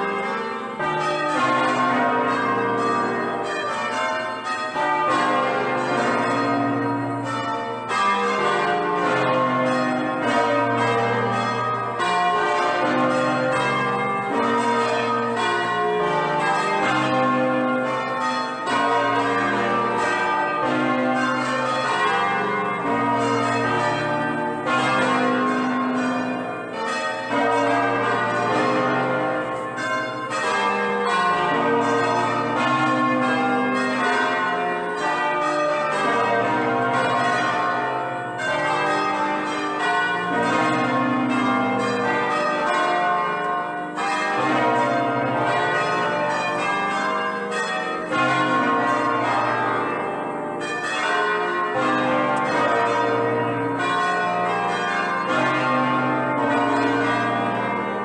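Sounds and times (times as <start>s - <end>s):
church bells ringing a peal: 0.0s - 58.0s.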